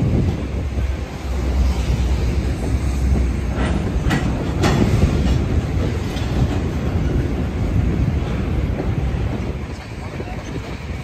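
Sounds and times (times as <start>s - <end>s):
freight cars rolling: 0.0s - 11.0s
wheels clicking over rail joints: 0.0s - 11.0s.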